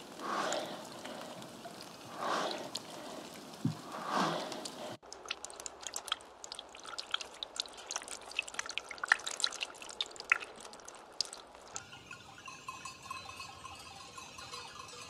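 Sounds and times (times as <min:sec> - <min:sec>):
water dripping: 0:00.0 - 0:13.9.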